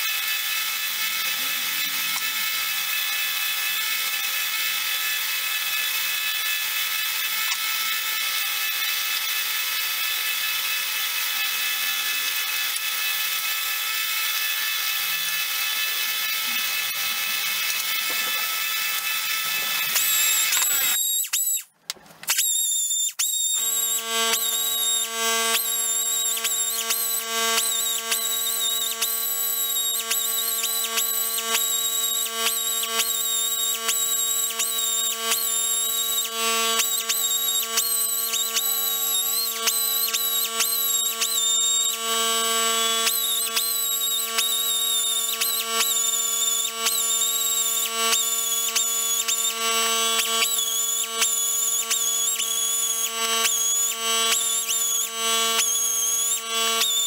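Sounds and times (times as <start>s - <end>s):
belt sander grinding metal: 0.0s - 57.0s
buffing wheel motor whining: 0.0s - 57.0s.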